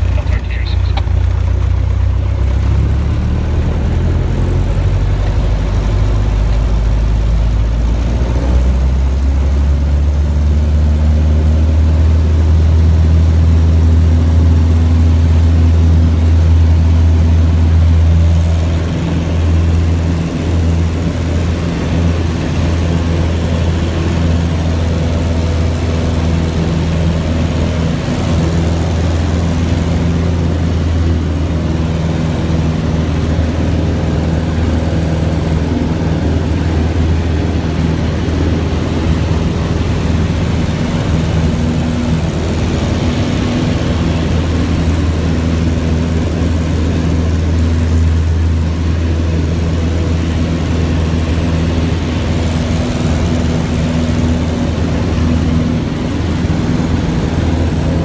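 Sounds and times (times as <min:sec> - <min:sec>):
plane engine and propeller drone: 0:00.0 - 0:58.0.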